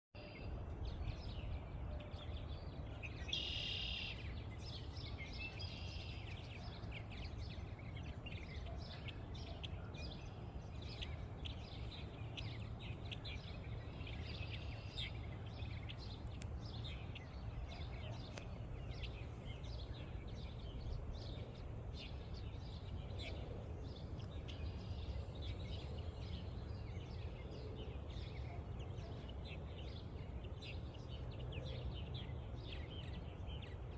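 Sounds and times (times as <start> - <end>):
low wind rumble: 0.2 - 3.3, 4.1 - 33.9
birds chirping and chattering: 0.9 - 33.9.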